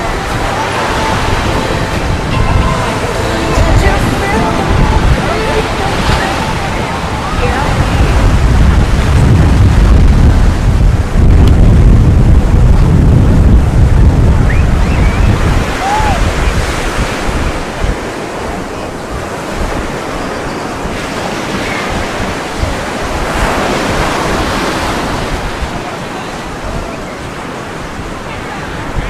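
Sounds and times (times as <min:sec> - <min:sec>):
ocean surf washing onto beach: 0:00.0 - 0:29.0
wind buffeting microphone: 0:00.0 - 0:29.0.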